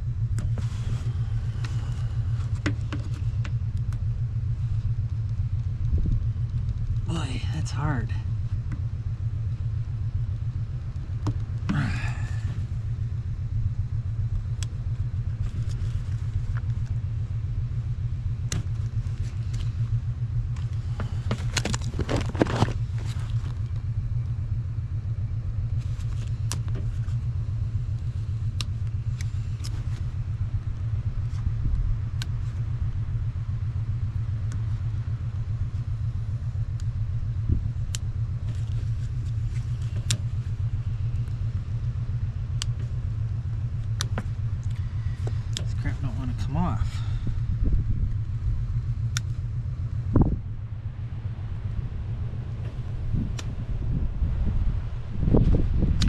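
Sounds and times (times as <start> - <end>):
engine humming steadily: 0.0 - 56.0.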